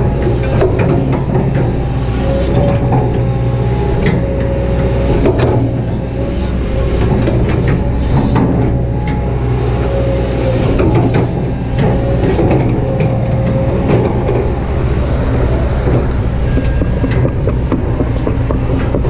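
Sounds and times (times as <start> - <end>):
excavator engine drone: 0.0 - 19.0
hydraulic whine: 0.0 - 19.0.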